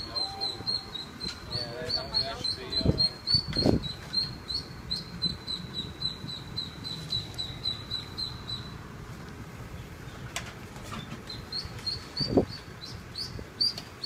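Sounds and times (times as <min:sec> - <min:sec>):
ducklings peeping: 0:00.0 - 0:08.8, 0:11.0 - 0:14.0.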